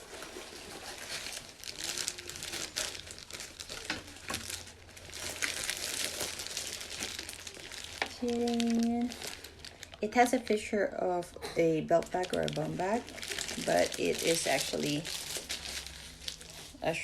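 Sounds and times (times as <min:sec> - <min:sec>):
packaging crinkling and rustling: 0:00.0 - 0:17.0.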